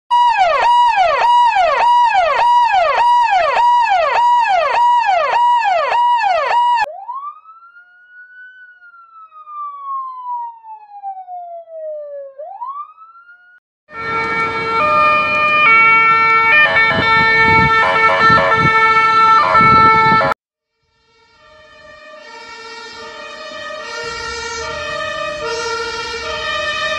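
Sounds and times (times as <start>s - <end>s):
loud multi-tone siren chord: 0.1s - 10.5s, 13.2s - 26.9s
fast wailing police siren: 0.1s - 26.9s
slow gliding siren: 0.1s - 26.9s.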